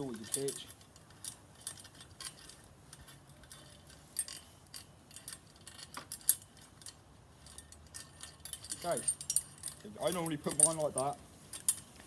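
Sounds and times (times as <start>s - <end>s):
bike chain links clinking: 0.0s - 12.0s.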